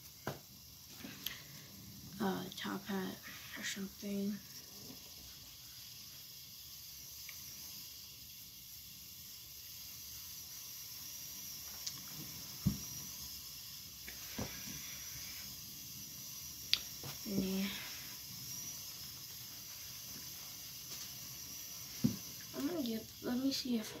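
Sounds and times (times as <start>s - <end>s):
low steady hiss: 0.0s - 24.0s.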